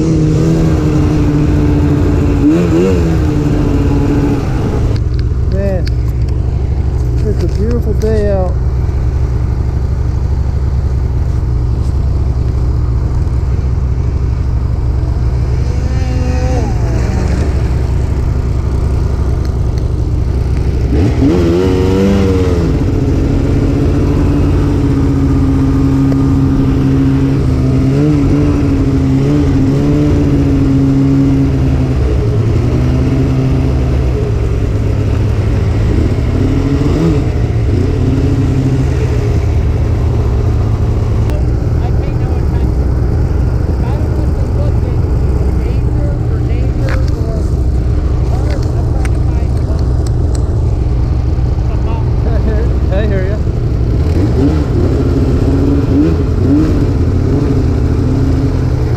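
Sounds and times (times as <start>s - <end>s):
snowmobile engine revving: 0.0s - 10.3s, 11.2s - 58.9s.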